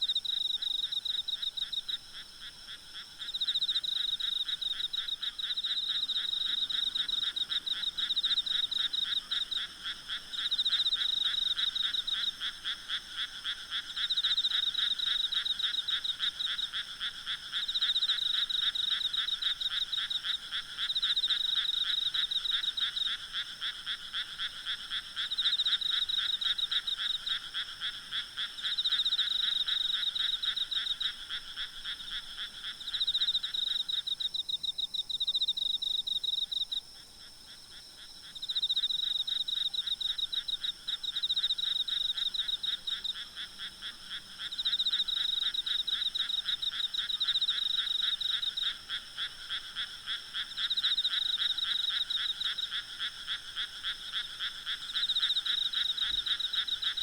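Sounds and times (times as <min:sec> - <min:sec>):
frogs calling: 0:00.0 - 0:57.0
insects trilling: 0:00.0 - 0:57.0.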